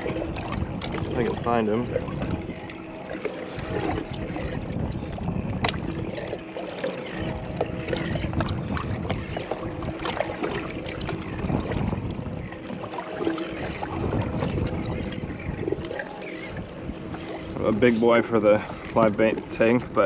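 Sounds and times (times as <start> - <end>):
water lapping against plastic hull: 0.0 - 20.0.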